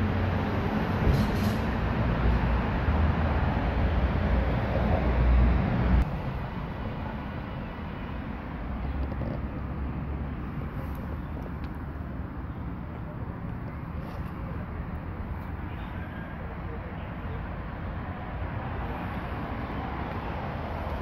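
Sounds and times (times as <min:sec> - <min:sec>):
low steady street rumble: 0:00.0 - 0:21.0.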